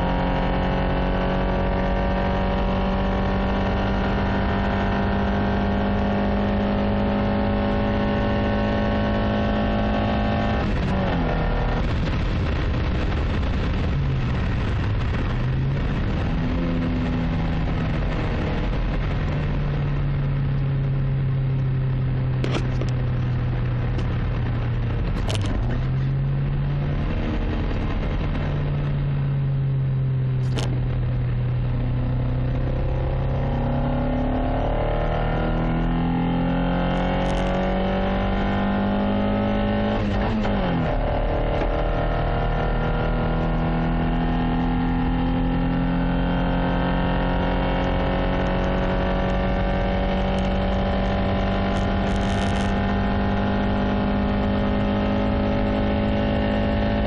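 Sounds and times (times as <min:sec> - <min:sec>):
car engine running unevenly: 0:00.0 - 0:57.0.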